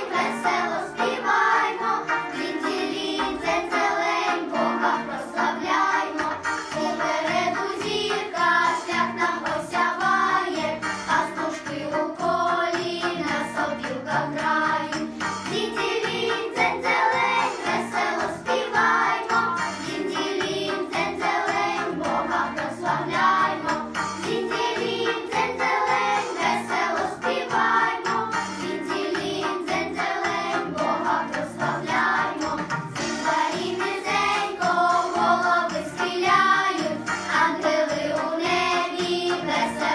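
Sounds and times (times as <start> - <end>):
backing track with steady beat: 0.0 - 39.9
vocal ensemble singing: 0.0 - 39.9.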